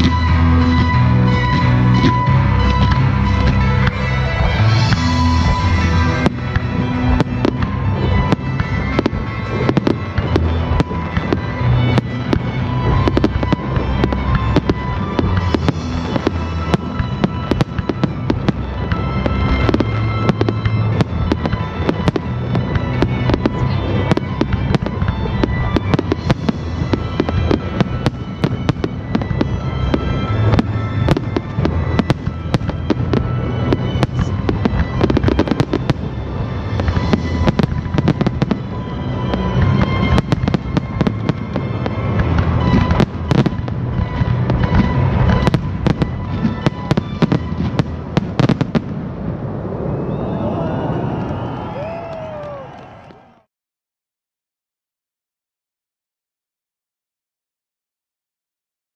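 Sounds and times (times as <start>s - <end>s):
fireworks bangs and crackles: 0.0s - 53.4s.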